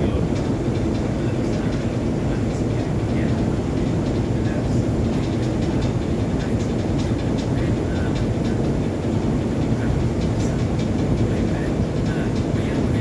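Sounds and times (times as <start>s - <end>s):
faint irregular ticking: 0.0s - 13.0s
ship engine rumbling: 0.0s - 13.0s.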